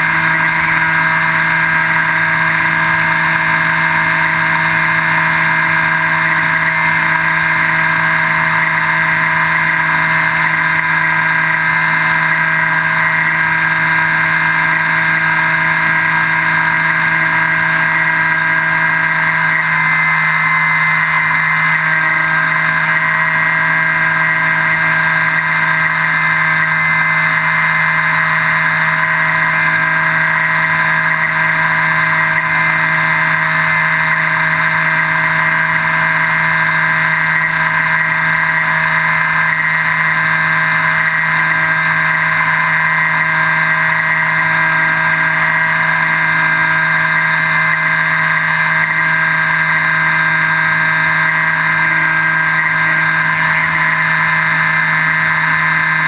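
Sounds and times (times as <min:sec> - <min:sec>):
electric motor whine: 0:00.0 - 0:56.0.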